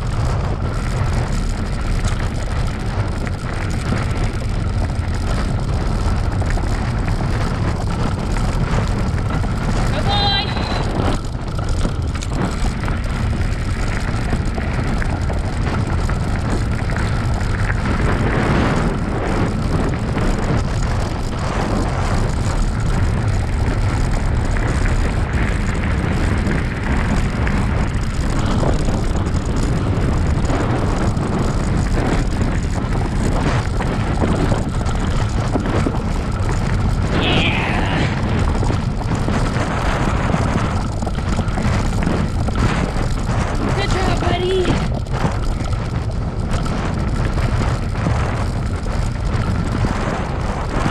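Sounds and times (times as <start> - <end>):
bicycle rolling over dirt trail: 0.0 - 50.9
bike rattling: 0.0 - 50.9
wind rush on microphone: 0.0 - 50.9.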